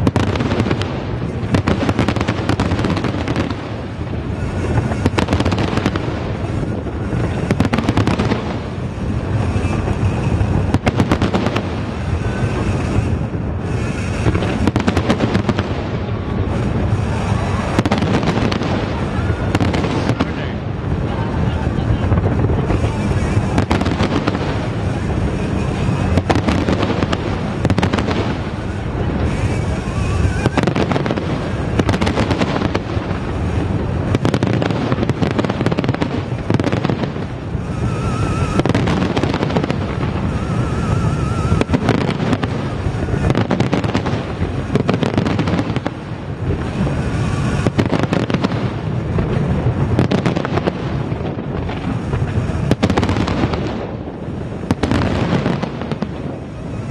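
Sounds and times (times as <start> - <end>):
firework shell bursts and crackling: 0.0 - 56.9
warbling firework whistles: 0.0 - 56.9.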